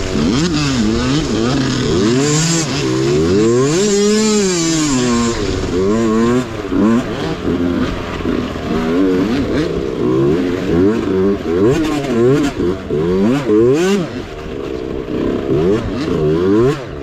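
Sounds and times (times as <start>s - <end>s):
mini bike engine revving: 0.0s - 17.0s.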